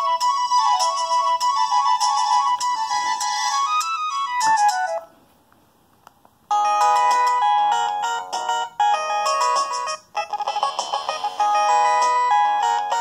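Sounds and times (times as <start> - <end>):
electronic ringtone melody: 0.0 - 5.1, 6.5 - 13.0
busier ringtone melody: 0.0 - 5.2, 6.5 - 13.0.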